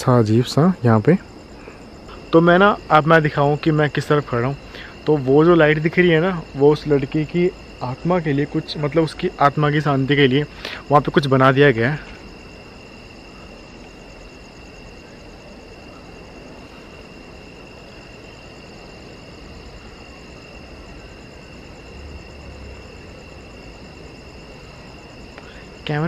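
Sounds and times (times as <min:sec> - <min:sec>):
crickets fast-pulsing trill: 0:00.0 - 0:26.0
crickets steady trill: 0:00.0 - 0:26.0.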